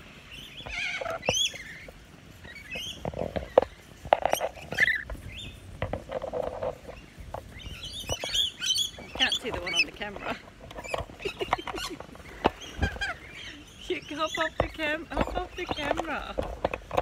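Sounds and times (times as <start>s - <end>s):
birds squeaking and chattering: 0.0s - 17.0s
beaks tapping and scraping bowl: 0.6s - 17.0s.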